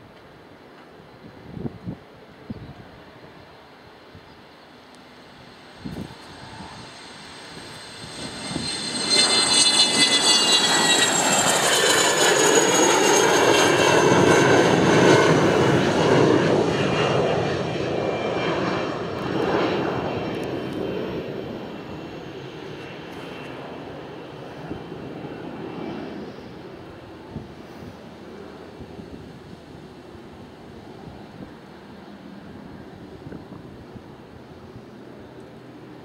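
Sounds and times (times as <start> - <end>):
jet engines roaring at takeoff: 0.1 - 36.0
high jet whine: 3.9 - 36.0.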